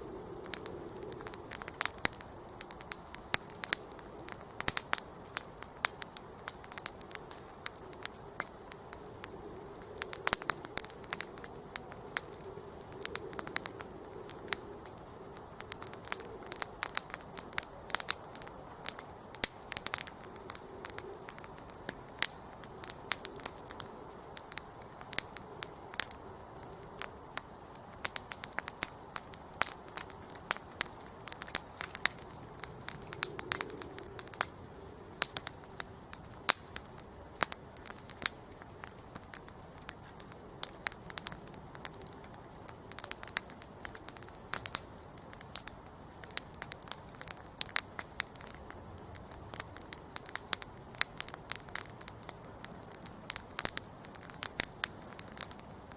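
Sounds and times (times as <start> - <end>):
campfire crackling and popping: 0.0 - 55.9
flame hissing: 0.0 - 55.9.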